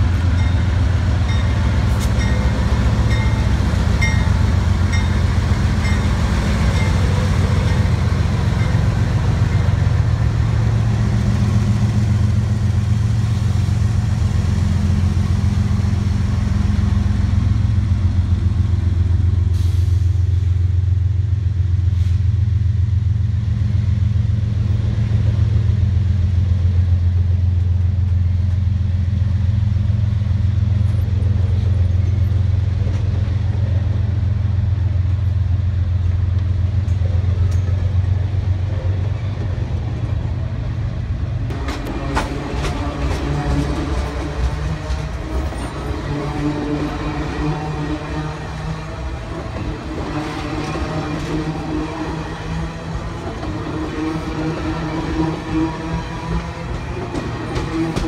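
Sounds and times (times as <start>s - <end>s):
diesel locomotives rumbling: 0.0s - 58.0s
train cars rolling on rails: 0.0s - 58.0s.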